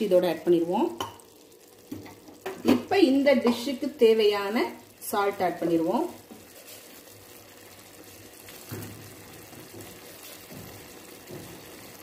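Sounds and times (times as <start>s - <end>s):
pot simmering with watery hiss: 0.0s - 12.0s.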